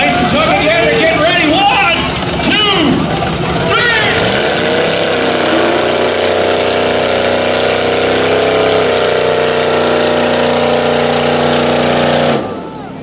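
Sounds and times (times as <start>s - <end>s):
truck engine running at high revs: 0.0s - 13.0s.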